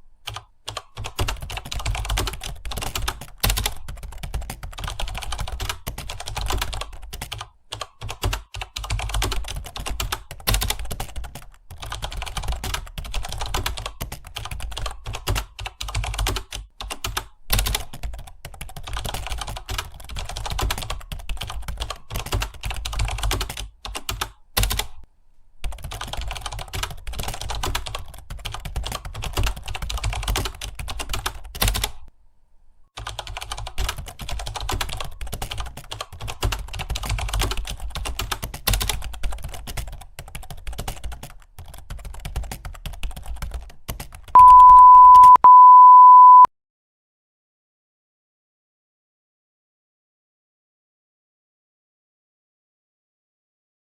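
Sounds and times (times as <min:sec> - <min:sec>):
fast typing on keyboard: 0:00.3 - 0:25.0, 0:25.6 - 0:32.1, 0:33.0 - 0:45.4.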